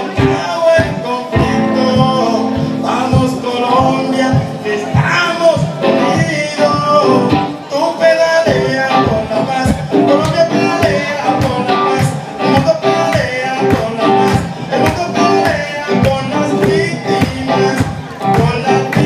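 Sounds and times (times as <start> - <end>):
guitar strummed in steady rhythm: 0.0 - 19.0.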